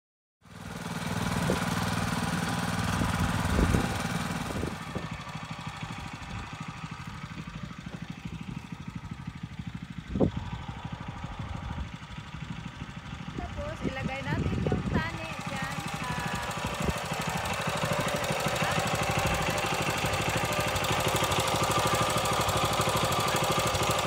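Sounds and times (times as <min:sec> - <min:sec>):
tiller engine running: 0:00.5 - 0:24.0.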